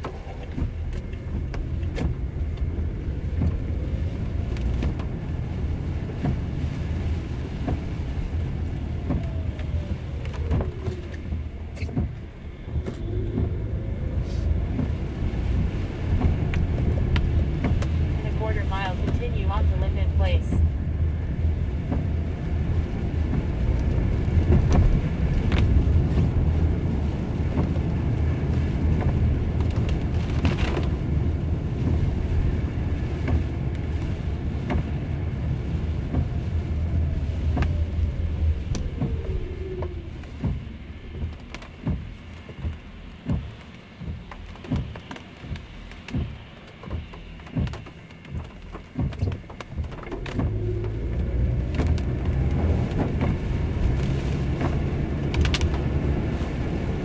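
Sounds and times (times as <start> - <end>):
engine and tyres on wet pavement: 0.0 - 57.0.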